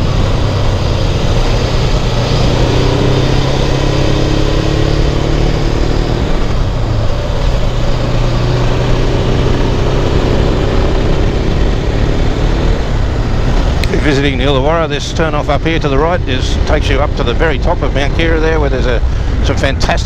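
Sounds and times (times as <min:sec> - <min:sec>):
motorcycle engine running: 0:00.0 - 0:20.0
wind rush: 0:00.0 - 0:20.0.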